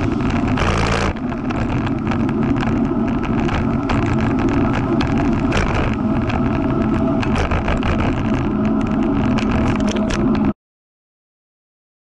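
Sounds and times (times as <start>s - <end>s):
road rumble: 0.0s - 10.6s
wind rushing over microphone: 0.0s - 10.6s.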